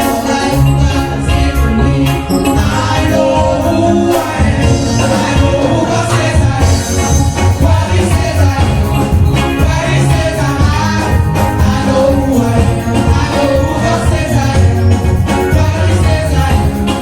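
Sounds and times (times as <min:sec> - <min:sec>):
band with heavy bass: 0:00.0 - 0:17.0
vocal group singing gospel: 0:00.0 - 0:17.0.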